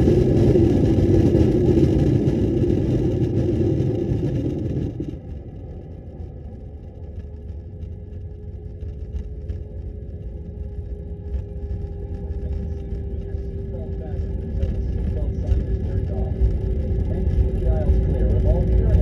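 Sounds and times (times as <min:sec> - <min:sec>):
aircraft rolling rumble: 0:00.0 - 0:19.0
jet engine roar: 0:00.0 - 0:19.0
steady engine hum: 0:00.0 - 0:19.0.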